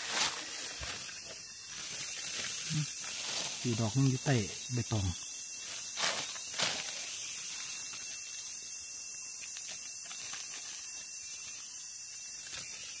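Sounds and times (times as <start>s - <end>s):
forest insects buzzing: 0.0s - 13.0s.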